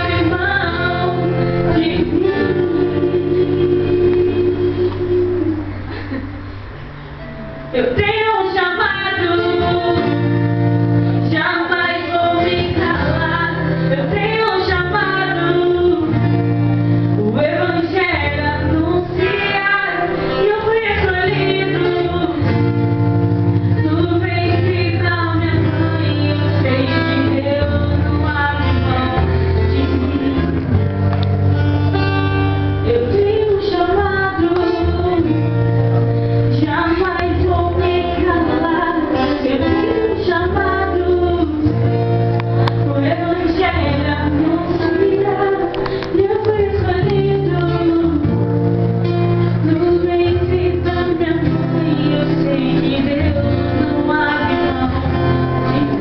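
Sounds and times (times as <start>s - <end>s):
woman singing: 0.0s - 6.3s, 7.7s - 31.2s, 32.2s - 56.0s
guitar: 0.0s - 56.0s
low bass notes: 8.9s - 56.0s.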